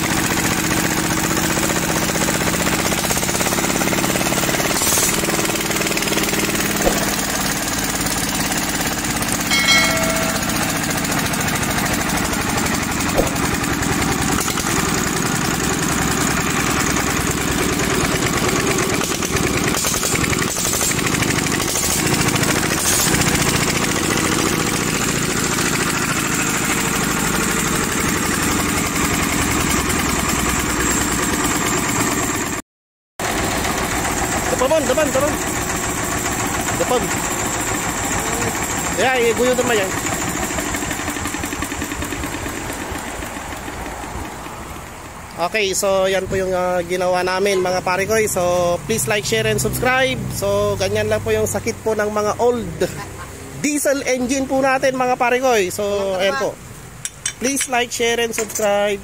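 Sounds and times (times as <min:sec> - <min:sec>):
diesel engine running: 0:00.0 - 0:32.6, 0:33.2 - 0:53.6.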